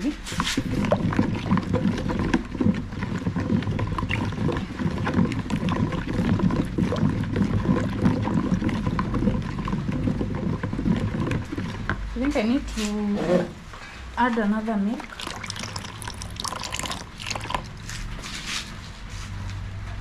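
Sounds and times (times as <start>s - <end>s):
batter being stirred: 0.0s - 19.6s.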